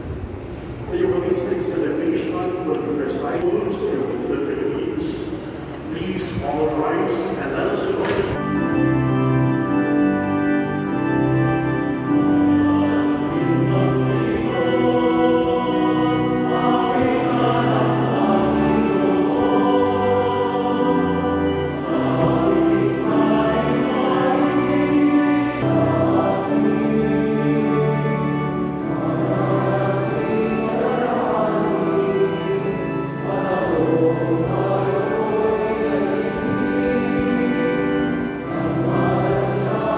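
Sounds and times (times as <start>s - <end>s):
church choir singing a hymn: 0.9s - 39.9s
instrumental accompaniment: 5.6s - 39.9s.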